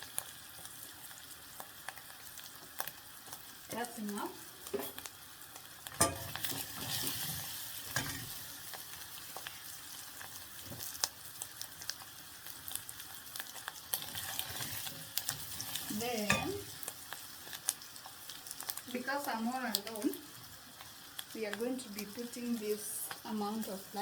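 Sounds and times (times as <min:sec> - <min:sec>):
meat sizzling in a pot: 0:00.0 - 0:24.0.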